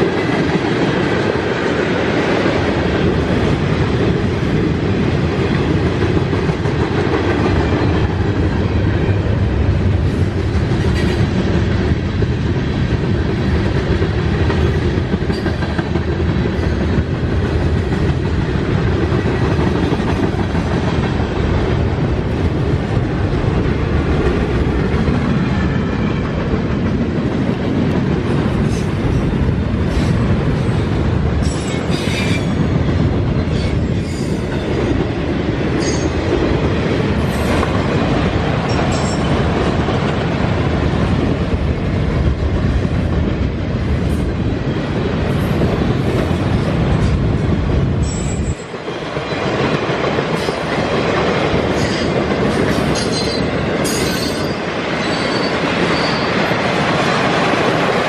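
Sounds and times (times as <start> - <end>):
train wheels rumbling clickety-clack: 0.0 - 58.0.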